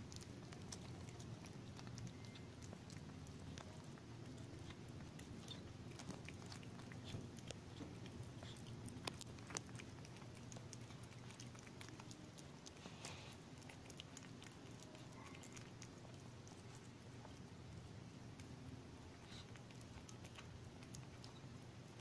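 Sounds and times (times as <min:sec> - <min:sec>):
cat licking kitten wet clicks: 0:00.0 - 0:17.5, 0:19.2 - 0:22.0.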